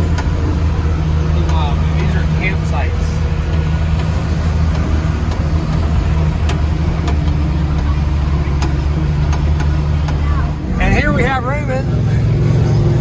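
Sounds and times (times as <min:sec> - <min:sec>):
light engine knocks: 0:00.0 - 0:10.6
diesel truck engine running: 0:00.0 - 0:13.0.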